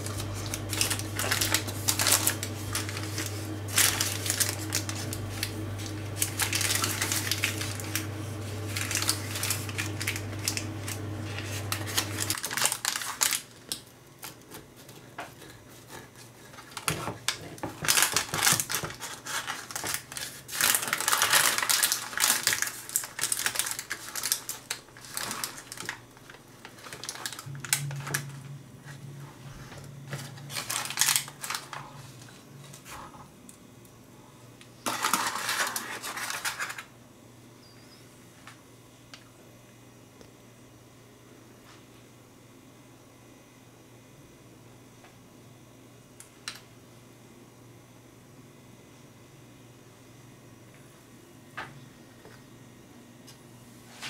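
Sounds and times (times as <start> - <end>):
steady low hum: 0.0 - 18.7, 19.5 - 54.0.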